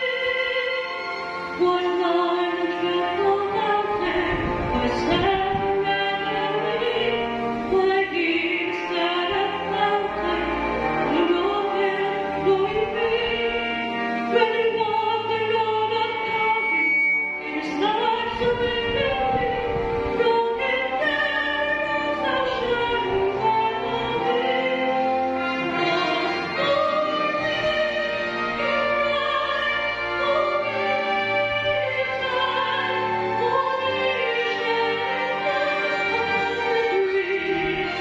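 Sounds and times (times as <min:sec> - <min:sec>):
woman singing into a microphone: 0:00.0 - 0:01.0, 0:01.6 - 0:38.0
instrumental accompaniment: 0:00.0 - 0:38.0.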